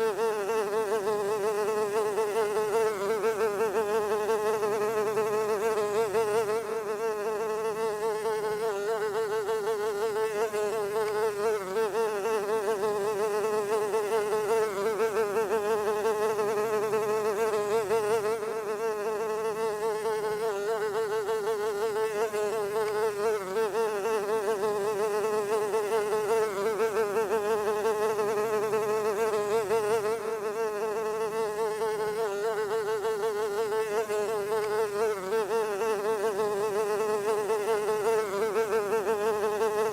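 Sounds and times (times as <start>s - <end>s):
fly buzzing: 0.0s - 39.9s.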